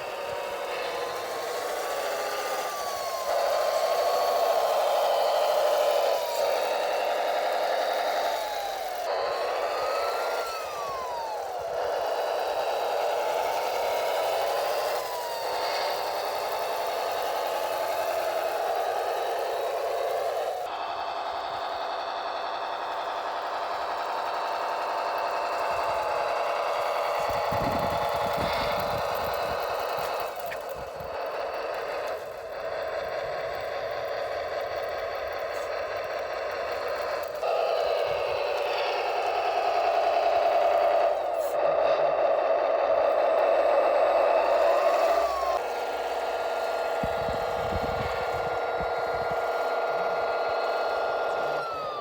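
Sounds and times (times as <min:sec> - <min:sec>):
simulated diesel engine from small speaker: 0:00.0 - 0:52.0.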